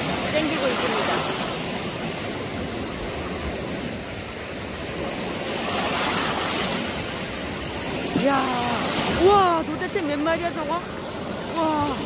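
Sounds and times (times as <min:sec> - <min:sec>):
small sea waves breaking: 0:00.0 - 0:12.0.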